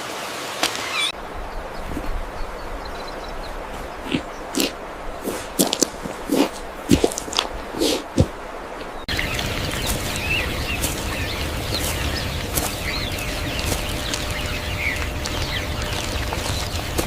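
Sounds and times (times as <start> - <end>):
birds chirping: 0.0 - 17.0
steady rushing noise: 1.1 - 17.0.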